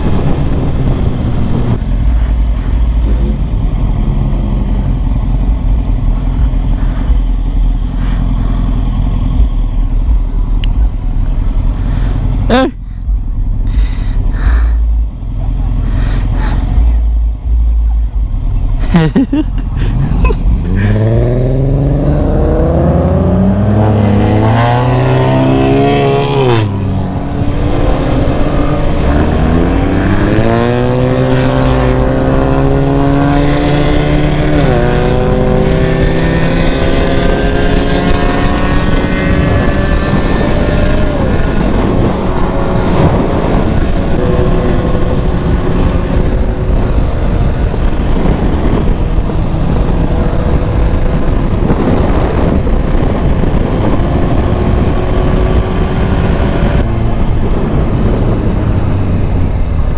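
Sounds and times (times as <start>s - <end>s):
wind rush: 0.0s - 15.0s, 18.9s - 59.9s
motorcycle engine accelerating: 0.0s - 59.9s.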